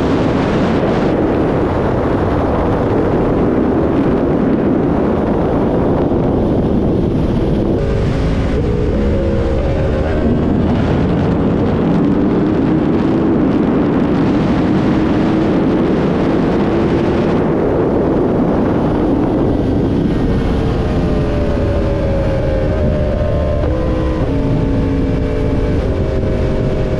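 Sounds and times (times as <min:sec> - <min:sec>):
motorcycle engine at road speed: 0:00.0 - 0:26.9
wind rushing over microphone: 0:00.0 - 0:26.9.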